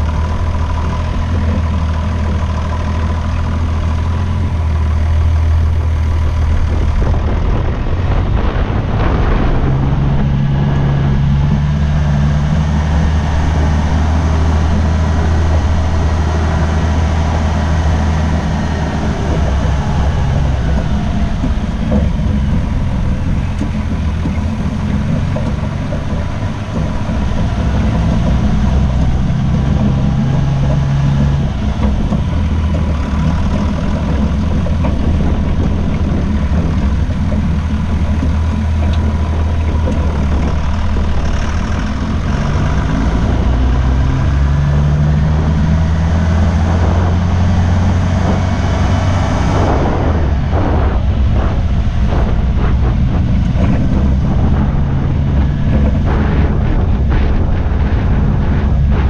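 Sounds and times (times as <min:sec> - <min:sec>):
tyre and road rumble: 0:00.0 - 0:59.0
vehicle engine running: 0:00.0 - 0:59.0.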